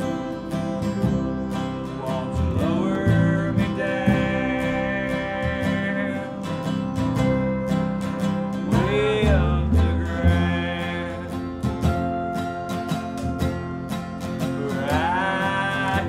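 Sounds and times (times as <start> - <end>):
acoustic country band playing: 0.0 - 16.0.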